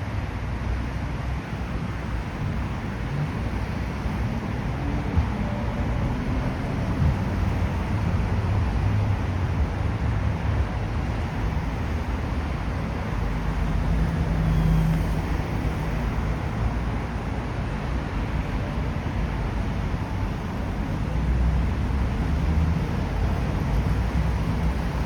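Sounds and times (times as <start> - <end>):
low engine hum: 0.0 - 25.0
road traffic rumble: 0.0 - 25.0.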